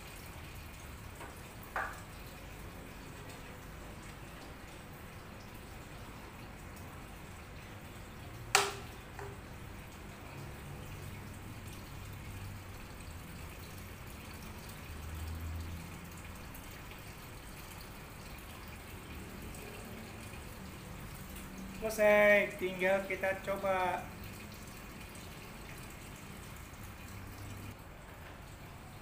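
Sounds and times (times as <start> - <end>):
aquarium water trickling: 0.0 - 29.0.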